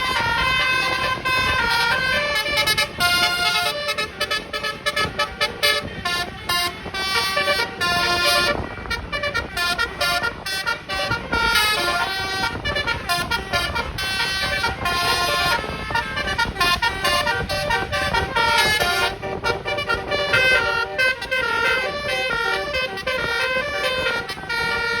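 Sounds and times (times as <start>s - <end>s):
musical air horn melody: 0.0s - 25.0s.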